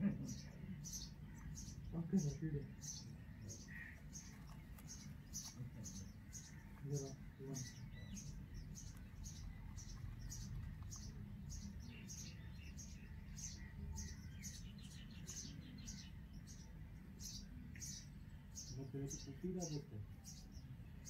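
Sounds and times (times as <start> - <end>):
nestlings begging chirps: 0.1 - 21.0.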